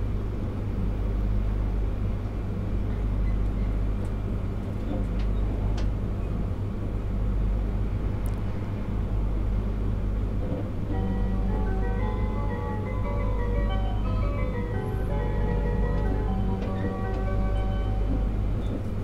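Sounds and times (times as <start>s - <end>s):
train wheels rumbling and humming: 0.0s - 19.0s.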